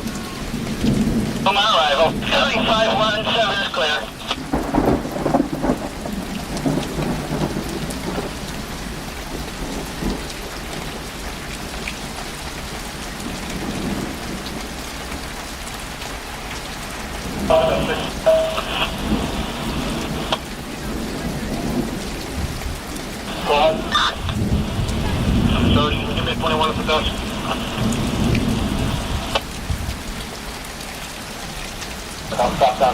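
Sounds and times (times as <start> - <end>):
heavy rain hissing: 0.0 - 32.9.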